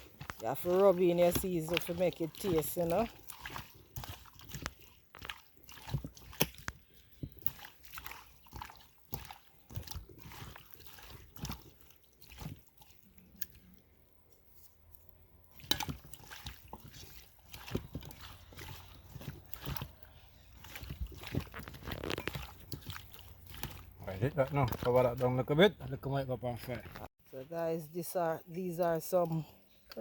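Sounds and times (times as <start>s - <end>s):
hands squelching rubbing food: 0.0s - 30.0s.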